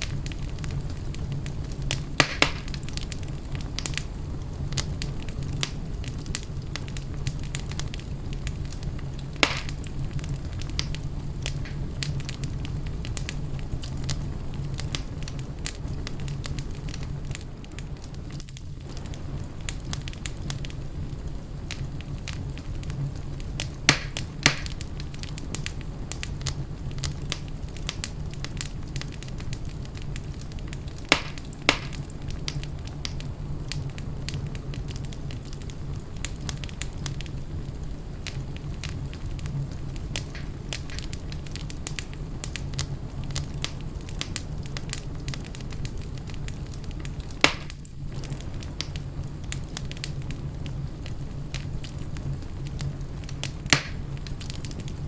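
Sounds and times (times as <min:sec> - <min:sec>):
sharp fire pops: 0:00.0 - 0:55.0
wood fire crackling: 0:00.0 - 0:55.0.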